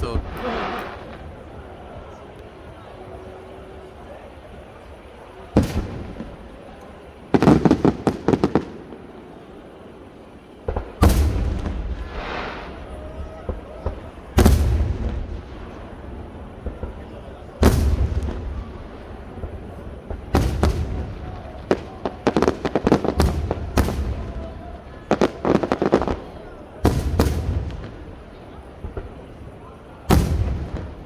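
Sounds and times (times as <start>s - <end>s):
firework hiss: 0.0s - 3.1s, 5.4s - 31.0s
fireworks bangs with echoing rumble: 0.0s - 31.0s
rapid volley of cracks: 0.0s - 31.0s.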